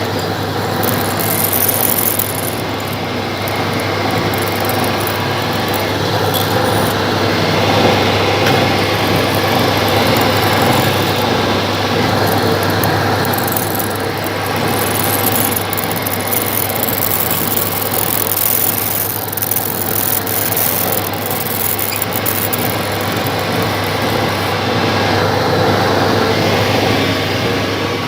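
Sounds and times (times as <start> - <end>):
lathe running: 0.0 - 28.0.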